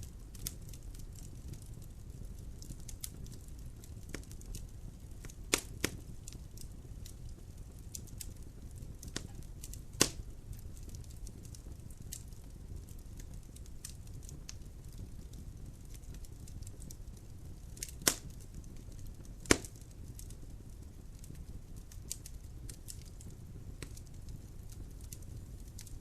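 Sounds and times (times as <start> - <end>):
burning wood popping: 0.0 - 26.0
flame rumble: 0.0 - 26.0
small crackles: 0.0 - 26.0.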